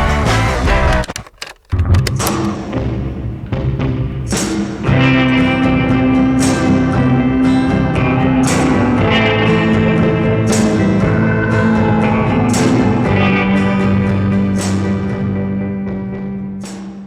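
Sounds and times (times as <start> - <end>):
steady low tone: 1.7 - 16.6
guitar long held notes: 1.7 - 17.0.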